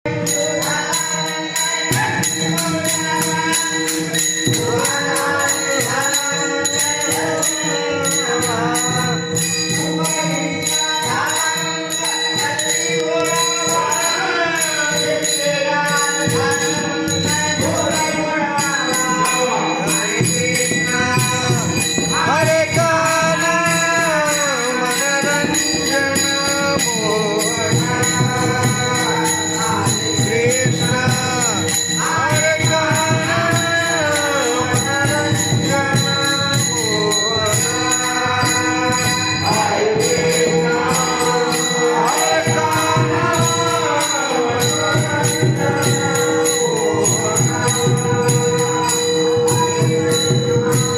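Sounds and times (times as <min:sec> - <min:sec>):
hand cymbals jingling: 0:00.1 - 0:50.9.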